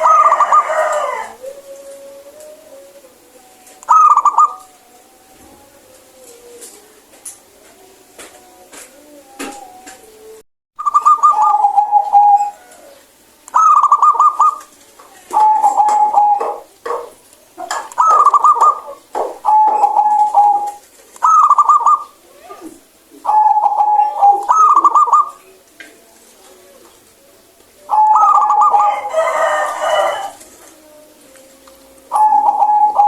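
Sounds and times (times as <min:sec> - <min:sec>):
dove cooing: 0:00.0 - 0:33.0.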